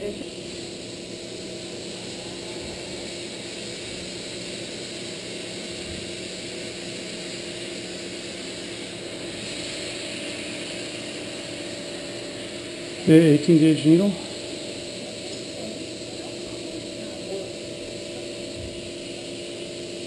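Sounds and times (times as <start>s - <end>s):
equipment and ventilation hum: 0.0s - 20.0s.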